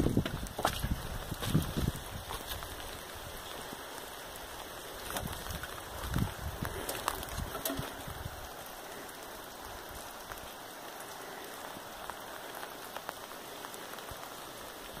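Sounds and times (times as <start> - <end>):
raindrops ticking: 0.0 - 15.0
steady rain falling: 0.0 - 15.0.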